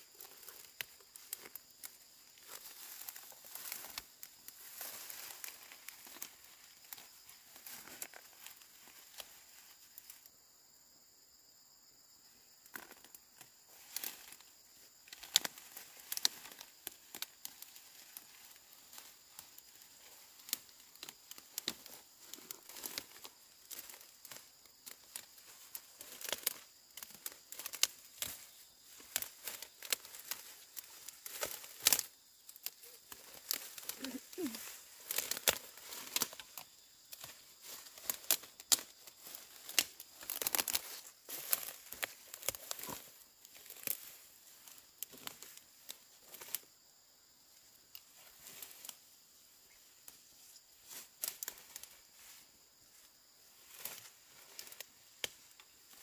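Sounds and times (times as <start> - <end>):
crinkling and crackling: 0.0 - 10.3, 12.6 - 46.7, 47.6 - 56.0.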